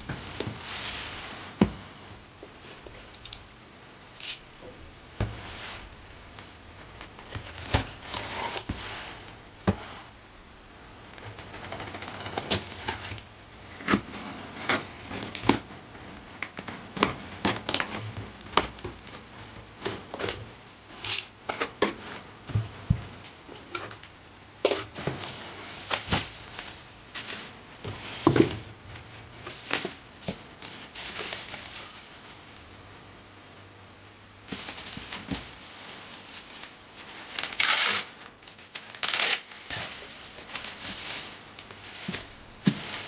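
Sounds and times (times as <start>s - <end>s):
paper and cardboard rustling: 5.2s - 10.2s, 11.1s - 32.6s, 34.5s - 43.0s.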